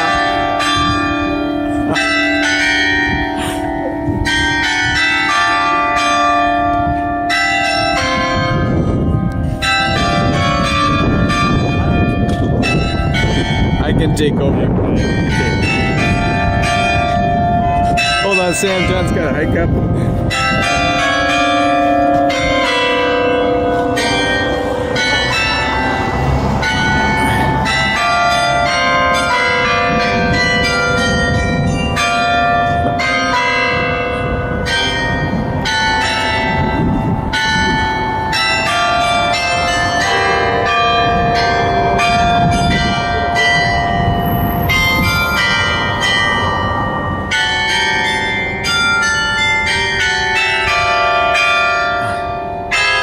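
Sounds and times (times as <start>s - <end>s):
tower bells ringing a tune: 0.0s - 53.0s.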